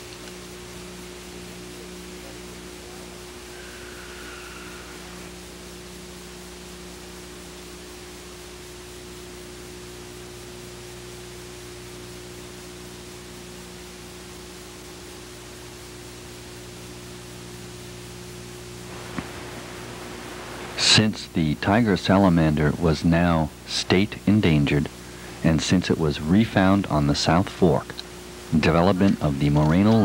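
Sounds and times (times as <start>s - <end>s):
low electrical hum: 0.0s - 30.0s
tape hiss: 0.0s - 30.0s.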